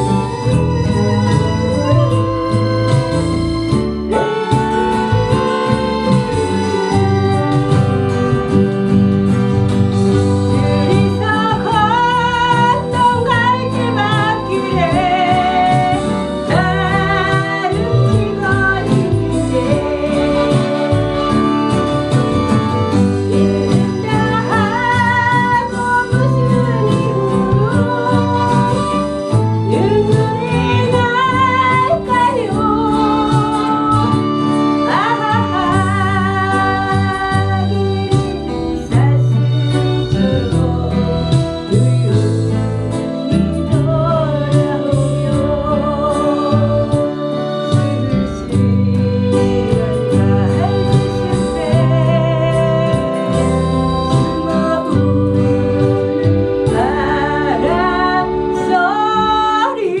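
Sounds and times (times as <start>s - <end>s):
instrumental backing track: 0.0s - 60.0s
woman singing a ballad: 0.0s - 60.0s.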